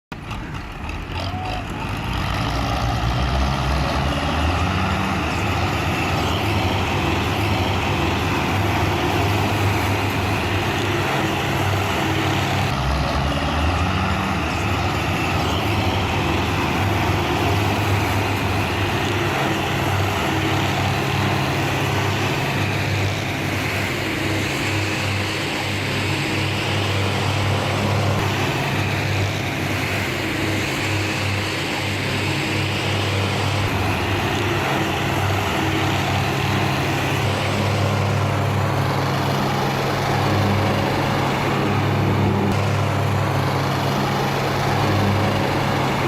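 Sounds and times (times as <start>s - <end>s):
tractor diesel engines droning: 0.0s - 46.0s.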